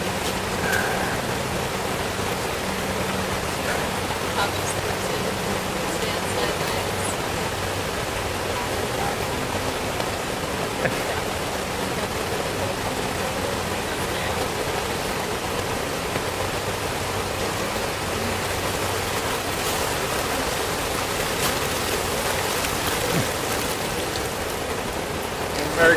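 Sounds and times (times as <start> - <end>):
flooded river rushing: 0.0 - 25.9.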